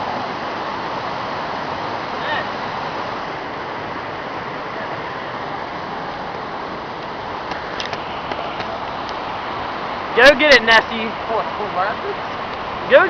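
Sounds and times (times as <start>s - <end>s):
river water rushing over waterfall: 0.0s - 13.0s.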